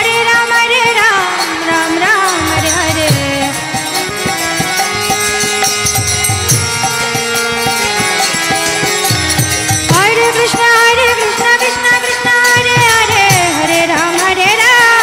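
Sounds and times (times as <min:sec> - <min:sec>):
hand percussion beat: 0:00.0 - 0:15.0.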